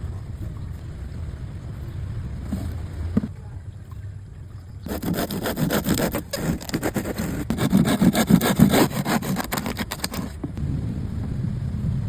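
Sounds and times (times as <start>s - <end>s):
steady low rumble: 0.0s - 4.9s, 7.0s - 12.0s
rough scraping with knocks: 0.0s - 10.6s.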